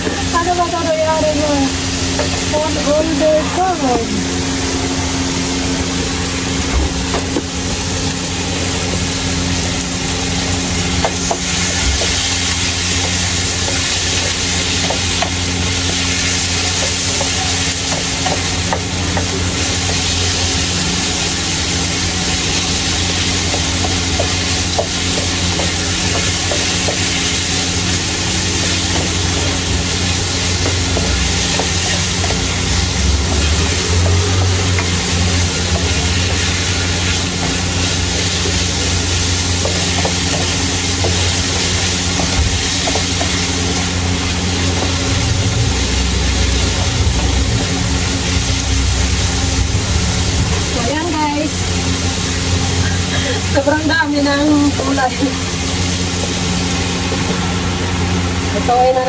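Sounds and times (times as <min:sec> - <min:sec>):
chicken sizzling in a wok: 0:00.0 - 0:59.0.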